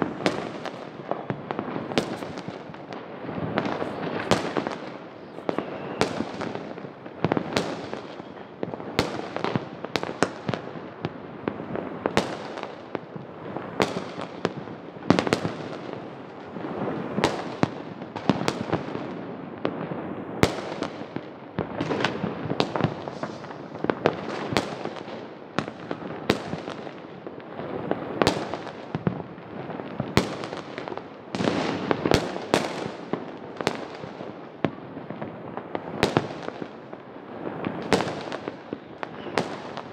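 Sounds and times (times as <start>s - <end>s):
crackle of distant explosions: 0.0s - 39.9s
firework bangs: 0.0s - 39.9s.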